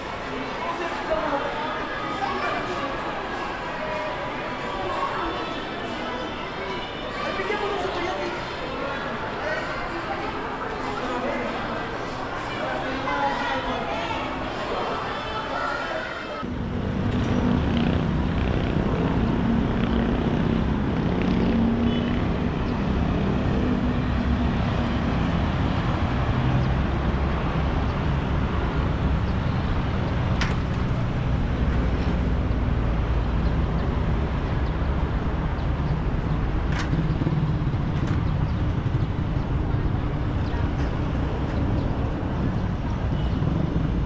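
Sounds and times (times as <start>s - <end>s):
vehicle engines rumbling: 0.0s - 44.0s.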